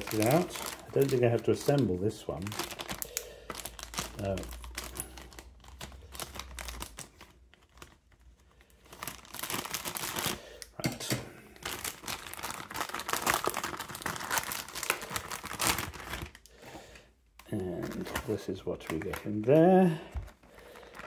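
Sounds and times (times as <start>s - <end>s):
plastic packaging crinkling and tearing: 0.0s - 16.6s, 17.4s - 21.0s.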